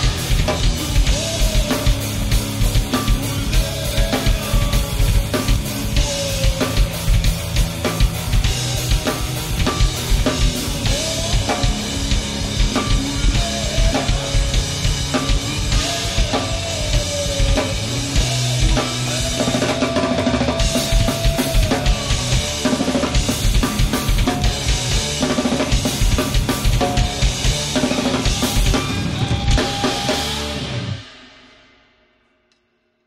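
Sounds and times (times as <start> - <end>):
drum kit played fast: 0.0 - 32.0
heavy rock band playing: 0.0 - 32.0.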